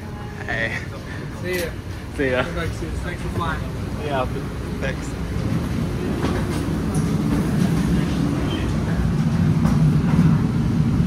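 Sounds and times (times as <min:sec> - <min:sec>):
machinery rumble and hum: 0:00.0 - 0:11.0.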